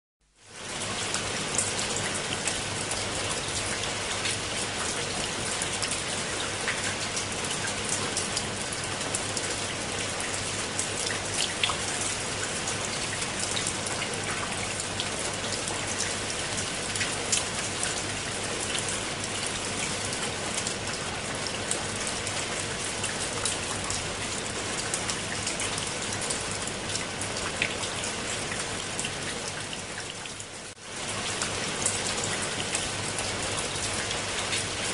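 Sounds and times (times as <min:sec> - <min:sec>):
rain falling on leaves and stone: 0:00.2 - 0:34.9.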